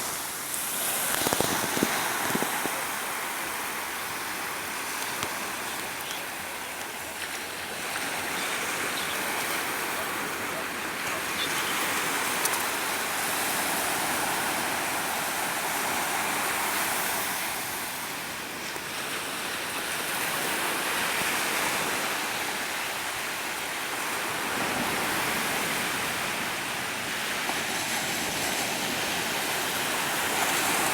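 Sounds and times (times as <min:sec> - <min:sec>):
waves breaking on shore: 0:00.0 - 0:30.9.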